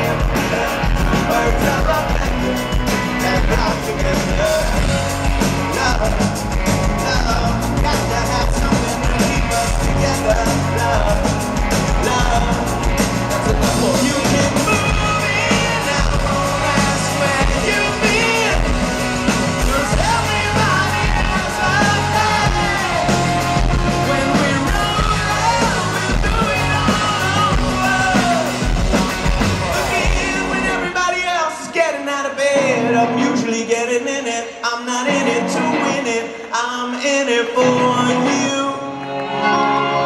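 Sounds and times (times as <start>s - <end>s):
live rock band: 0.0s - 40.0s
man singing: 0.0s - 40.0s.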